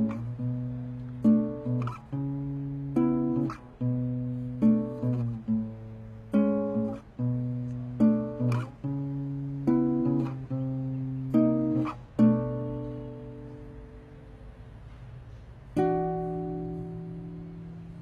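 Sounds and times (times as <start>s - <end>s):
acoustic guitar chords ringing: 0.0s - 18.0s.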